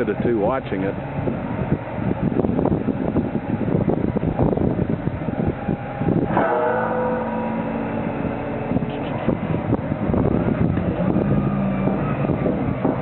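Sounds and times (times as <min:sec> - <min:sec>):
forklift engine rumbling and revving: 0:00.0 - 0:13.0.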